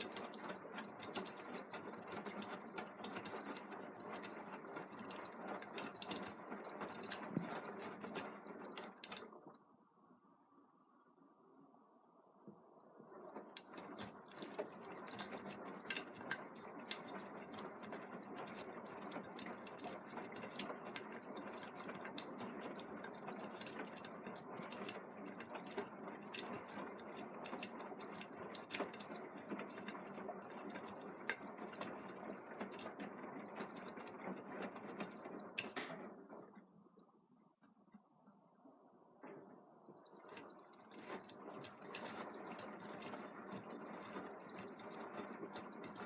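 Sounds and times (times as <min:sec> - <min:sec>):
washing machine running: 0:00.0 - 0:09.5, 0:12.6 - 0:37.0, 0:39.0 - 0:46.0.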